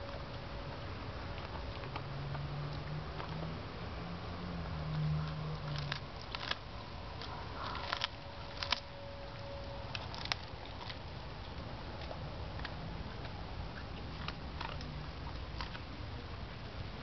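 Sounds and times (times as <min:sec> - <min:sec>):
dog crunching broccoli: 0:00.0 - 0:17.0
low hum: 0:00.0 - 0:17.0.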